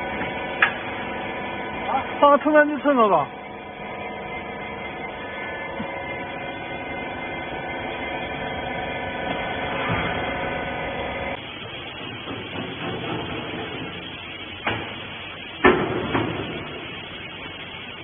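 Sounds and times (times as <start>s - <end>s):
electric pump motor humming: 0.0s - 18.0s.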